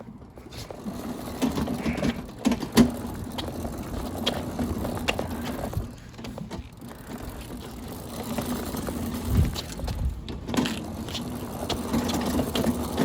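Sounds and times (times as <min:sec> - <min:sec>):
go-kart clicks and knocks: 0:00.0 - 0:13.0.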